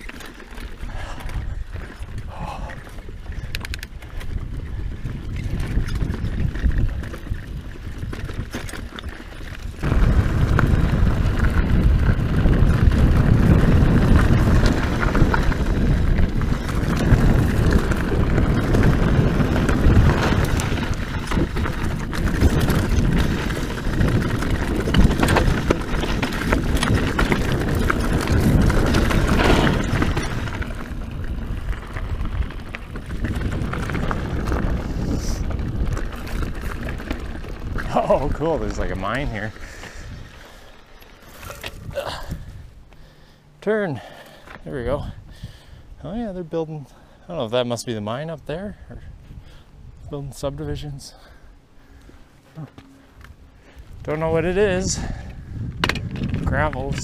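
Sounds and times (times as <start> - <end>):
bike tyres crunching on rocks: 0.0 - 45.8, 50.3 - 57.0
wind rumbling on microphone: 0.0 - 57.0.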